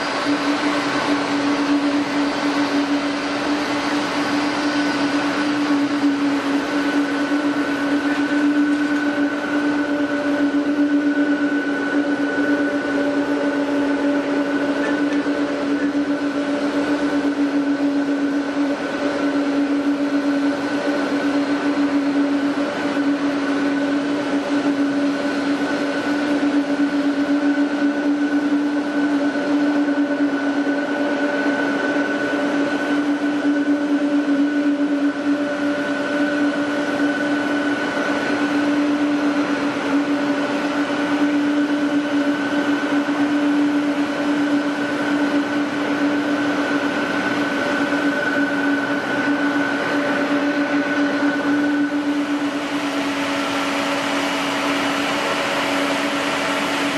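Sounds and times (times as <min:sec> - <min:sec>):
jet engines idling: 0:00.0 - 0:56.9.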